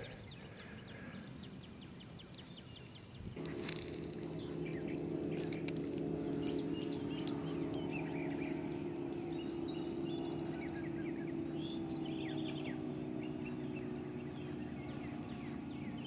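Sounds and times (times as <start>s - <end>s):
small birds chirping: 0.0s - 16.0s
steady engine hum: 0.0s - 16.0s.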